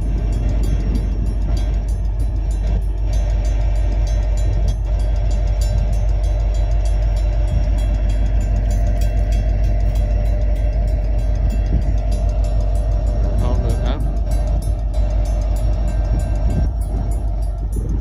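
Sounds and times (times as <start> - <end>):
crossing warning bell ringing: 0.0 - 18.0
diesel locomotive rumbling: 0.0 - 18.0.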